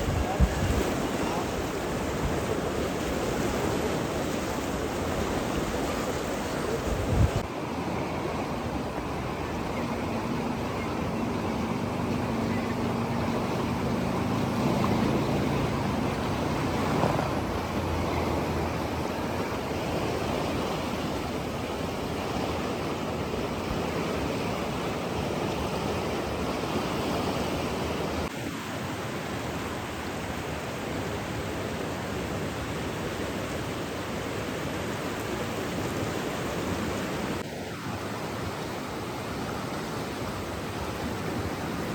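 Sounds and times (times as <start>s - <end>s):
rushing water: 0.0s - 41.9s.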